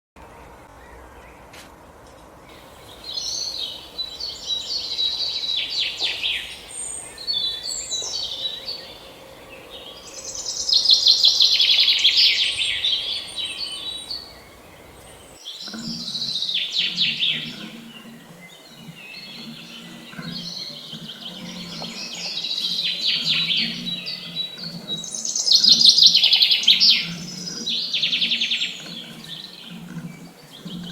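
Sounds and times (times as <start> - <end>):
songbird singing: 2.4 - 30.9.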